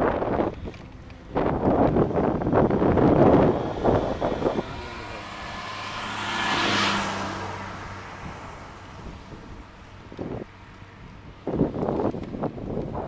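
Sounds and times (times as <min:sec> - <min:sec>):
wind buffeting microphone: 0:00.0 - 0:13.0
car passing: 0:00.4 - 0:11.8.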